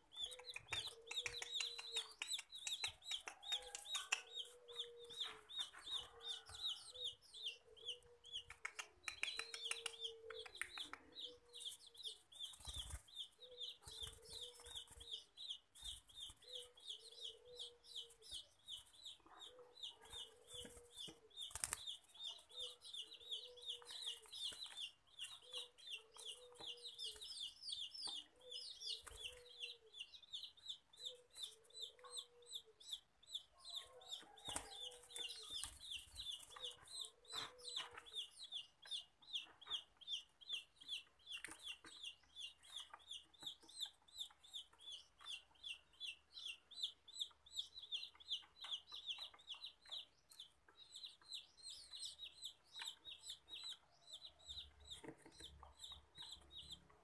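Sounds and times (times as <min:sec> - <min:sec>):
chick cheeping: 0:00.0 - 0:57.0.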